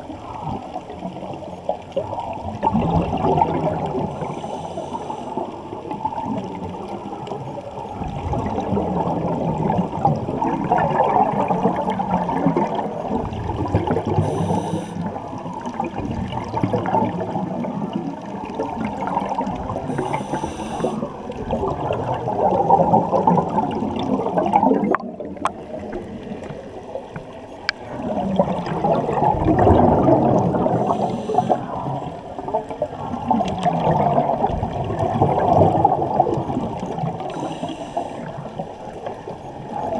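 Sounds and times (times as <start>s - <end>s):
muffled underwater bubbling: 0.0s - 39.9s.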